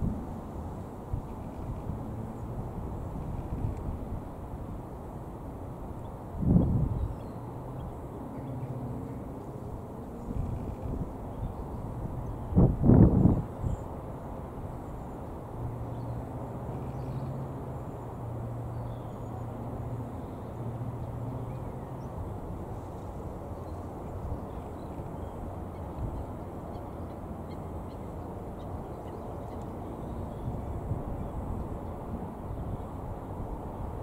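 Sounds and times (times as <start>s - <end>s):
wind rumble on microphone: 0.0s - 17.4s, 20.8s - 27.1s, 28.1s - 34.0s.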